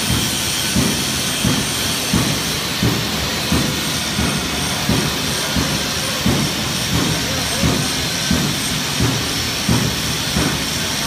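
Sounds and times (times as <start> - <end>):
machinery hissing: 0.0 - 11.0.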